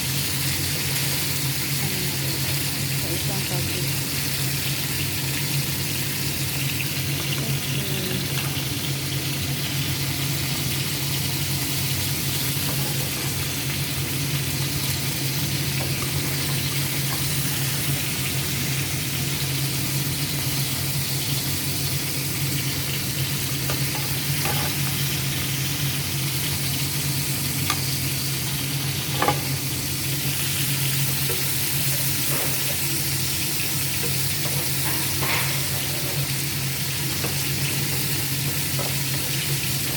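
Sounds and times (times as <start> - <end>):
chicken sizzling in oil: 0.0 - 39.9.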